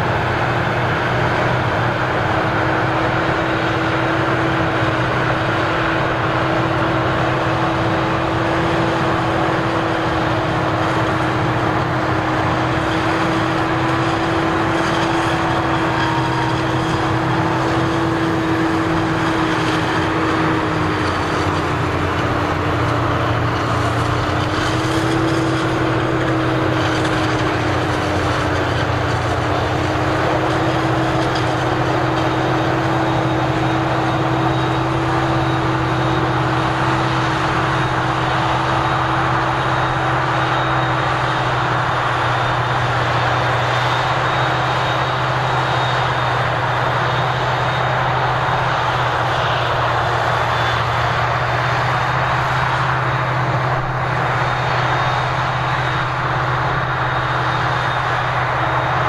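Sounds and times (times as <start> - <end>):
harvester machine drone: 0.0 - 59.0.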